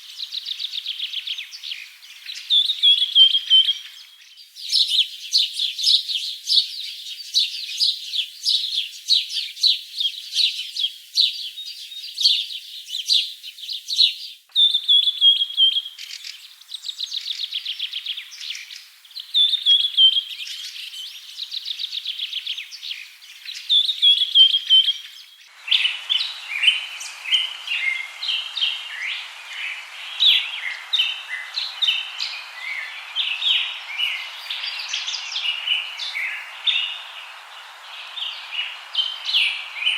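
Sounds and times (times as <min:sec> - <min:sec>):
steady hiss: 0:00.0 - 0:11.4, 0:12.2 - 0:39.9
songbirds chirping and trilling: 0:00.0 - 0:39.9.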